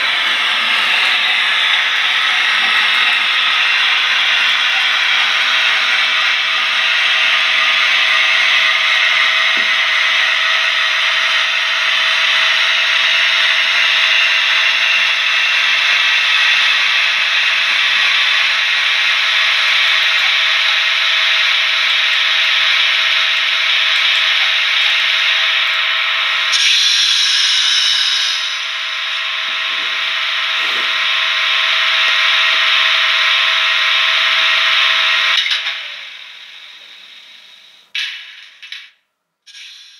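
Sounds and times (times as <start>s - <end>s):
electric locomotive motor whirring: 0.0s - 38.0s.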